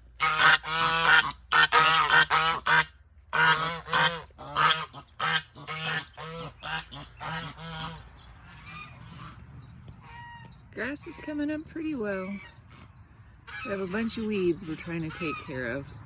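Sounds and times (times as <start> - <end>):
geese honking: 0.0 - 9.4, 10.0 - 16.0.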